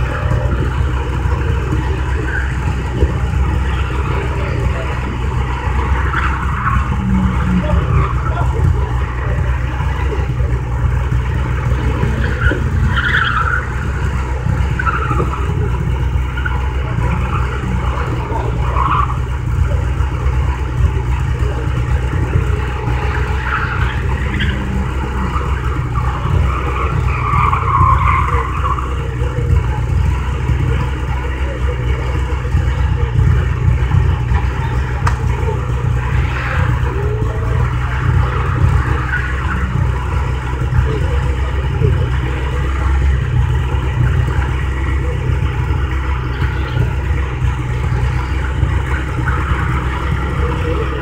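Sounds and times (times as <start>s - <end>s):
car engines idling: 0.0s - 51.0s
tyres squealing: 0.0s - 51.0s.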